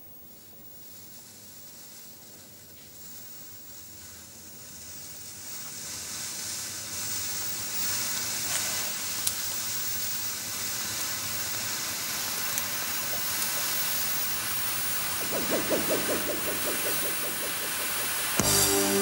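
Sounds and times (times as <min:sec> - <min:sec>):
chemical burning with hiss: 0:00.3 - 0:19.0.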